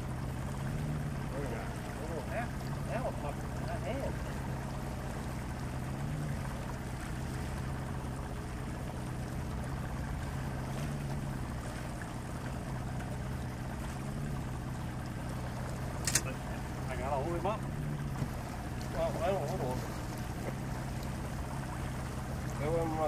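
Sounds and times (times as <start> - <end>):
outboard motor humming: 0.0 - 23.0
water noise: 0.0 - 23.0.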